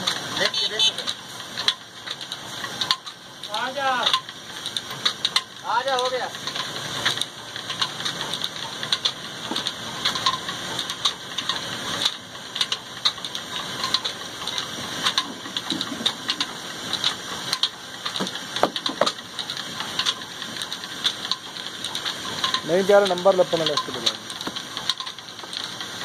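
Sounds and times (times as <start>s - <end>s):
diesel flour mill clattering: 0.0s - 26.0s.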